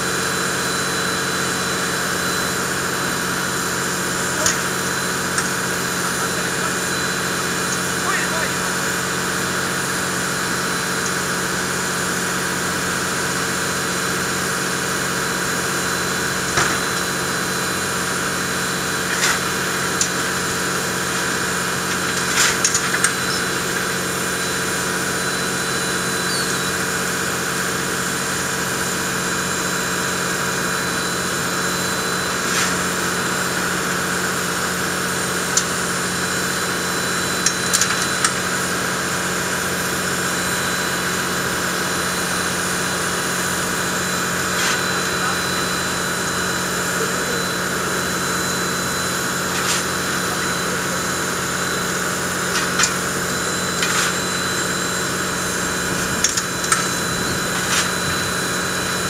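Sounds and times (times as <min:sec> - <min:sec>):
steam locomotive hum and hiss: 0:00.0 - 0:59.0.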